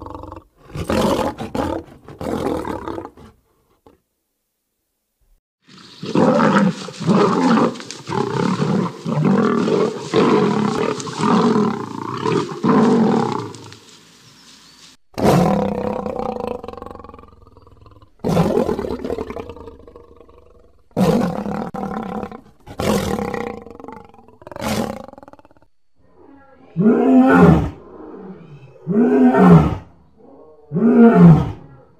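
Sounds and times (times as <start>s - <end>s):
big cat roaring: 0.0s - 3.4s, 6.0s - 13.6s, 15.2s - 31.9s.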